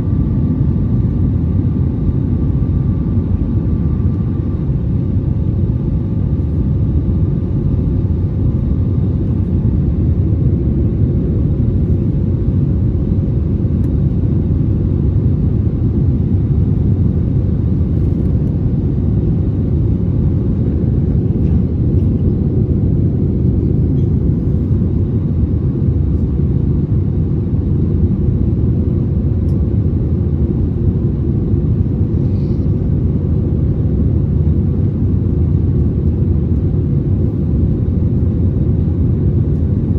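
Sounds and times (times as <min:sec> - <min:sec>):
jet engine rumble inside cabin: 0:00.0 - 0:39.9.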